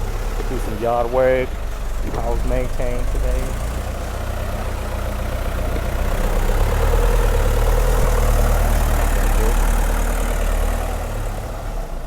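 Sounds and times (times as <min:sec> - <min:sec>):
dump truck engine running: 0:00.0 - 0:12.0.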